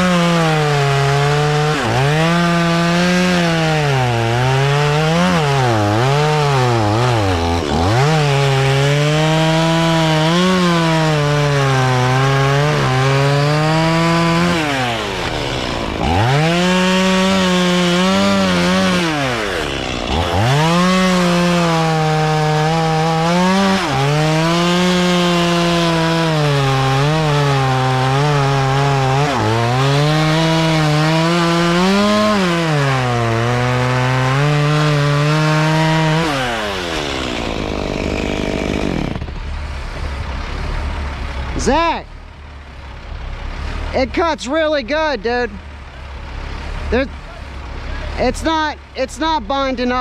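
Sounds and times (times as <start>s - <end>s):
chainsaw cutting logs: 0.0s - 50.0s.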